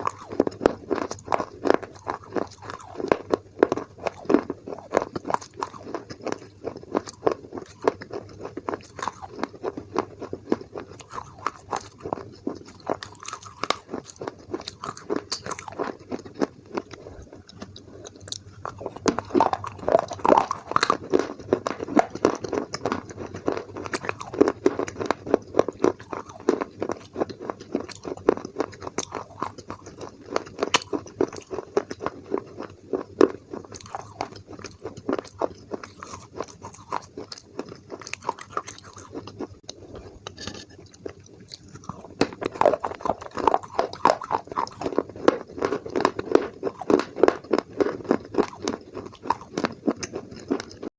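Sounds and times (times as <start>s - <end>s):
crunching and chewing: 0.0s - 50.9s.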